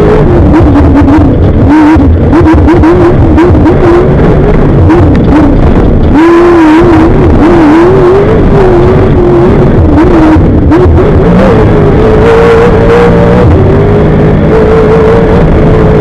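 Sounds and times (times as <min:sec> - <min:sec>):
race vehicle engine revving: 0:00.0 - 0:16.0.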